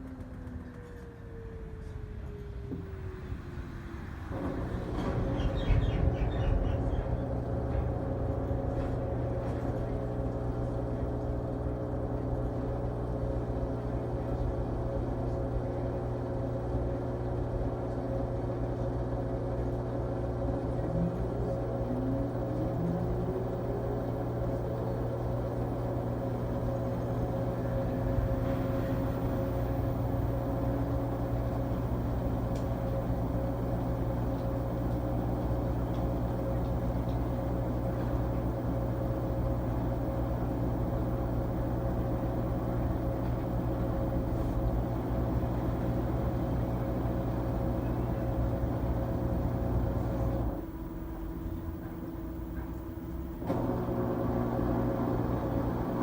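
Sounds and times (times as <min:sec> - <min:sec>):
washing machine running: 0:02.8 - 0:56.0.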